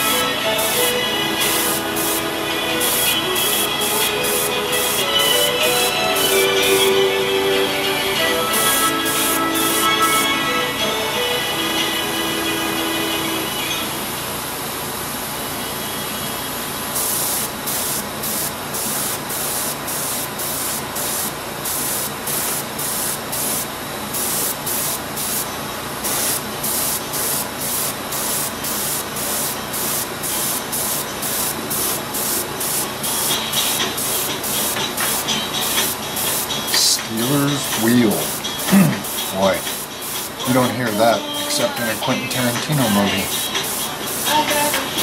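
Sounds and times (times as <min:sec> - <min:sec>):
airbrush spraying hiss: 0:00.0 - 0:07.6, 0:08.4 - 0:10.4, 0:16.9 - 0:45.0.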